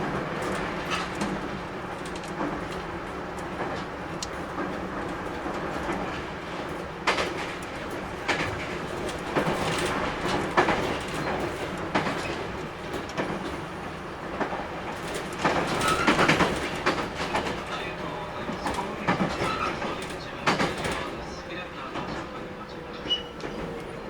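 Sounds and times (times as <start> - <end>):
electric train rumbling: 0.0 - 24.0
train wheels clacking over joints: 0.0 - 24.0.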